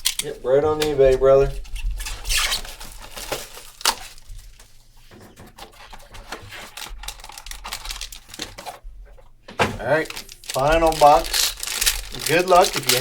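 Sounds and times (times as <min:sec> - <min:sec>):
trading cards clicking and rustling: 0:00.0 - 0:08.8, 0:09.5 - 0:13.0.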